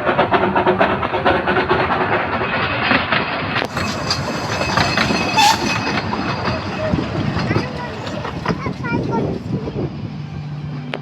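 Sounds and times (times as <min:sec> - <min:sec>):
train wheels clicking over rails: 0:00.0 - 0:11.0.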